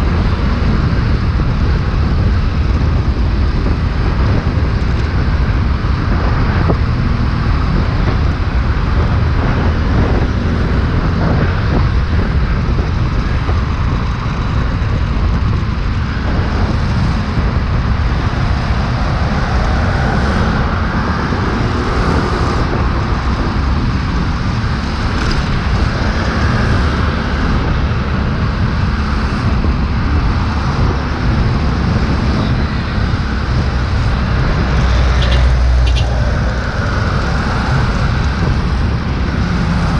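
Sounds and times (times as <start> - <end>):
passing cars and motorbikes: 0.0 - 39.9.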